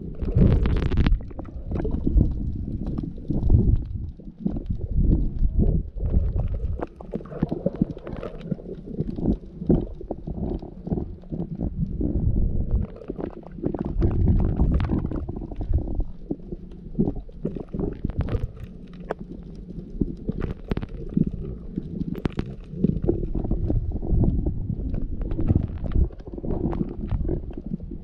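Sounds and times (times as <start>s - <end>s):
muffled underwater rumble: 0.0s - 28.0s
scattered clicks and pops: 0.0s - 28.0s
water bubbling: 0.0s - 28.0s.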